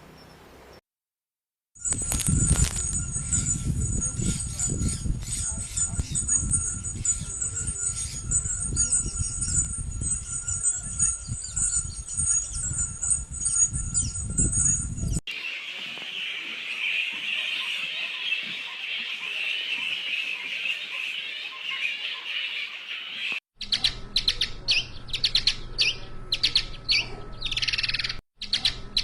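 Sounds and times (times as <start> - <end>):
bats squeaking: 1.8 - 29.0.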